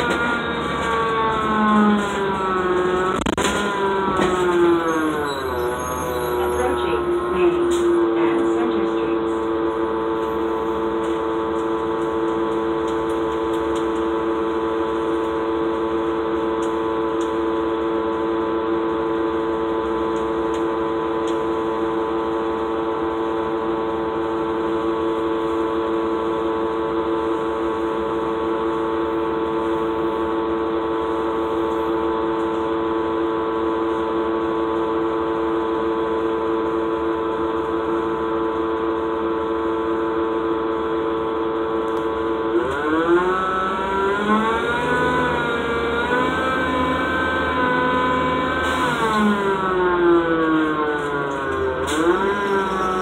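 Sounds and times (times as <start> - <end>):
diesel bus engine drone: 0.0 - 53.0.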